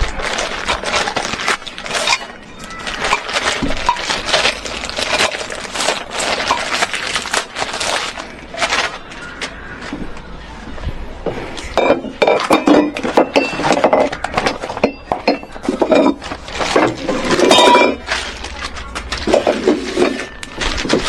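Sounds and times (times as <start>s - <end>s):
hard objects clinking and knocking: 0.6s - 9.0s, 11.7s - 21.0s.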